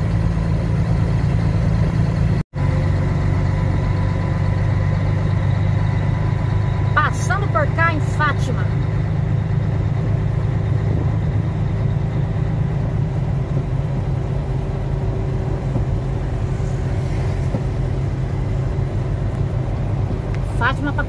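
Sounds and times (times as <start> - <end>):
truck engine and road noise: 0.0 - 21.0.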